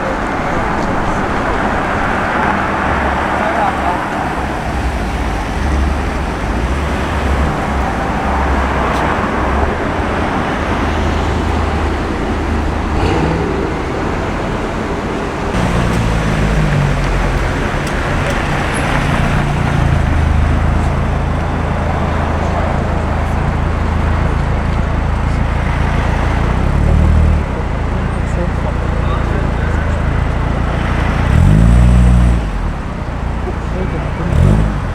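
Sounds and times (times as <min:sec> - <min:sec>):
low engine hum close by: 0:00.0 - 0:34.9
vehicles passing: 0:00.0 - 0:34.9.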